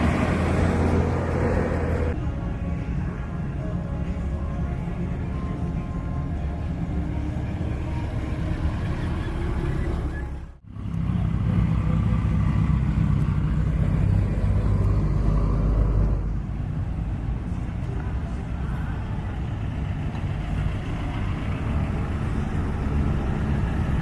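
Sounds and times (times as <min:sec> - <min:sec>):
car engines rumbling: 0:00.0 - 0:24.0.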